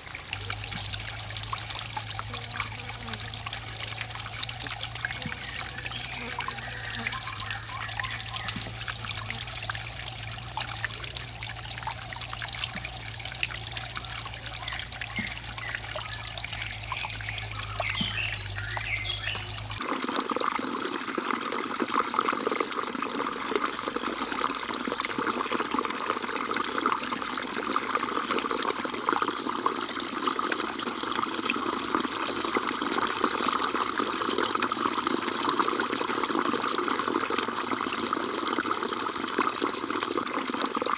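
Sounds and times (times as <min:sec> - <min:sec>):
water trickling into a pond: 0:00.0 - 0:40.9.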